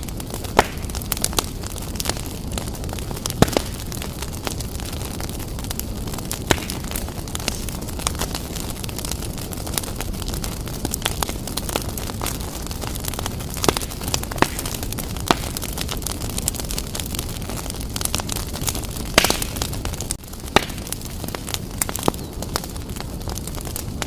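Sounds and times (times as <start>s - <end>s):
fire popping: 0.0s - 24.0s
wood fire crackling: 0.0s - 24.0s.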